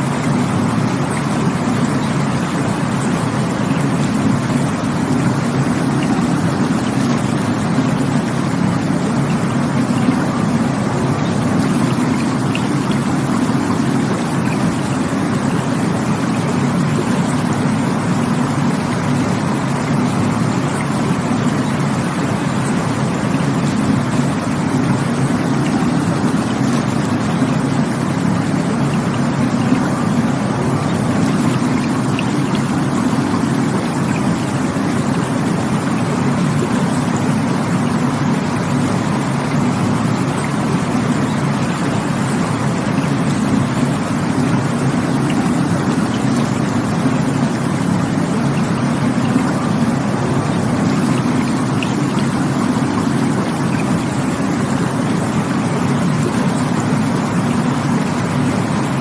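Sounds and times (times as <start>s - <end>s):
rushing water roar: 0.0s - 59.0s.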